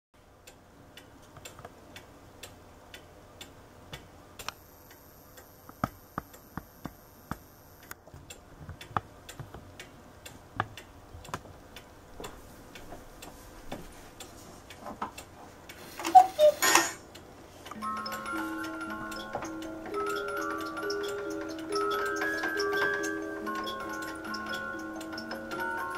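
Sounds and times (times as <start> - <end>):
clock ticking: 0.4 - 25.9.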